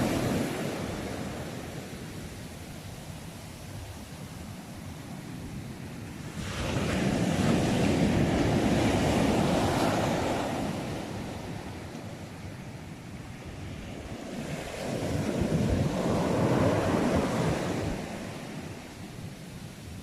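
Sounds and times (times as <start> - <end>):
surf rumble: 0.0 - 20.0
wave breaking and washing in: 0.0 - 20.0.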